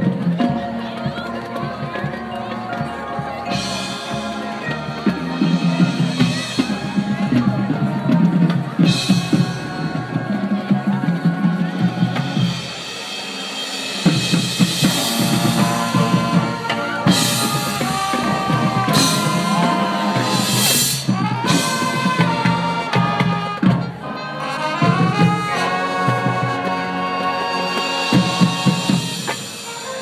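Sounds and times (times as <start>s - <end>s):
mallet percussion: 0.0s - 30.0s
marching drums: 0.0s - 30.0s
brass section holding loud chords: 0.6s - 30.0s.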